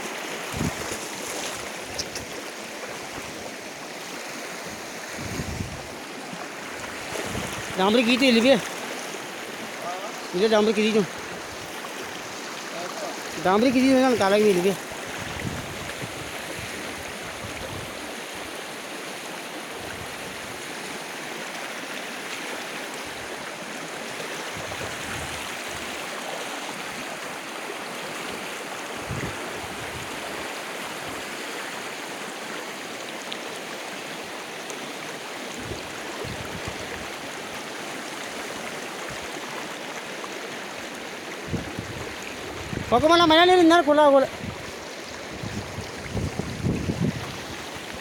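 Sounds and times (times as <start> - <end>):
floodwater rushing: 0.0 - 48.0.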